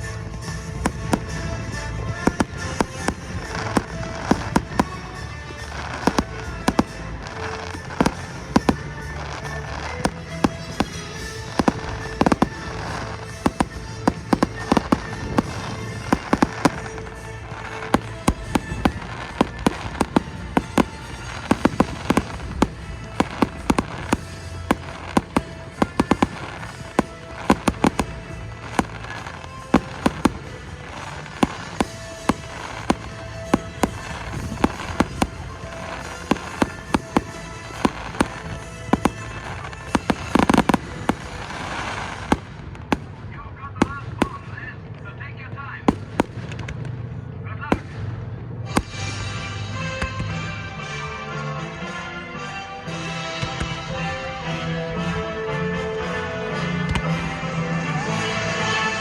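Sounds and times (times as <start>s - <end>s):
music playing: 0.0s - 45.0s, 48.5s - 59.0s
fireworks bangs and cracks: 0.0s - 51.1s.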